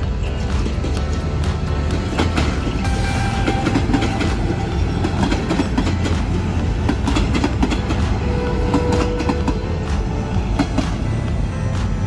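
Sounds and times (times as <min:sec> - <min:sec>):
train rumble: 0:00.0 - 0:12.0
train wheels clicking over rail joints: 0:00.0 - 0:12.0.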